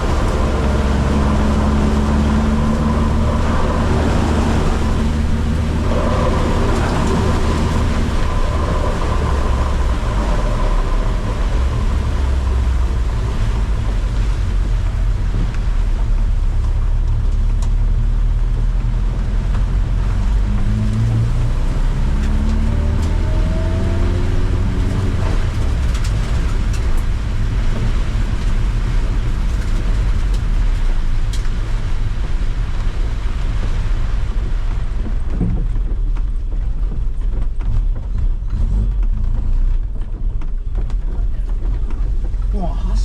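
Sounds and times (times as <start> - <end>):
car engine drone: 0.0 - 43.0.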